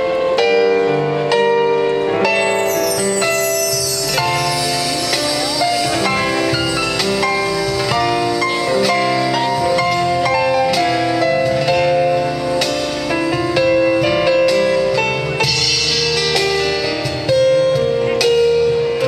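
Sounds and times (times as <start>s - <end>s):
live band playing pop ballad: 0.0s - 19.0s.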